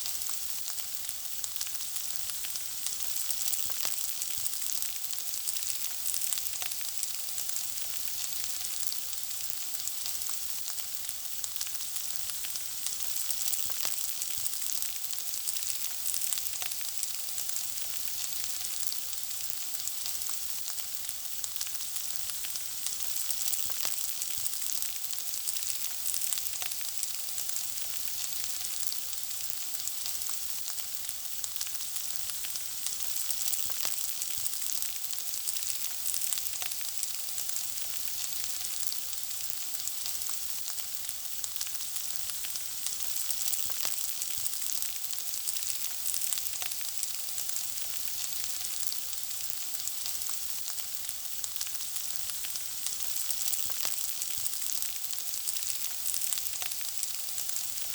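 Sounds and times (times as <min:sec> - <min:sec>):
food sizzling and crackling: 0:00.0 - 0:57.9.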